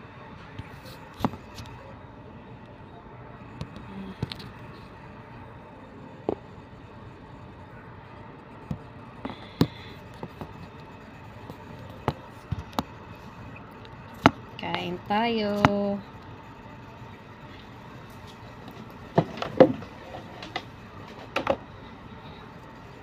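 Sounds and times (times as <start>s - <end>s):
background hum: 0.0s - 23.0s.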